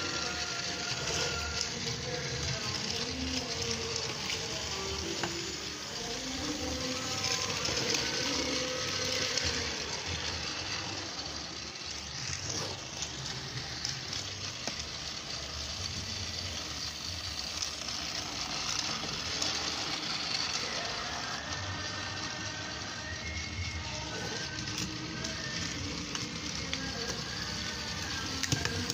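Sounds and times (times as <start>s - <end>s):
toy train motor whirring: 0.0s - 28.9s.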